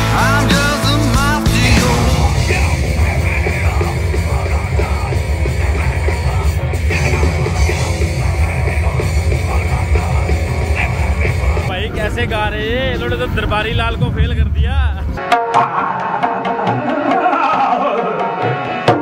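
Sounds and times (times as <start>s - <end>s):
loud rock music: 0.0s - 19.0s.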